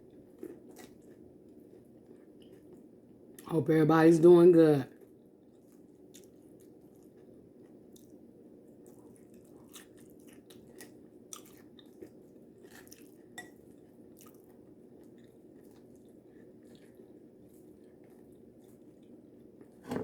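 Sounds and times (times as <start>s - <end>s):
chewing and crunching: 0.0s - 3.5s, 4.9s - 19.8s.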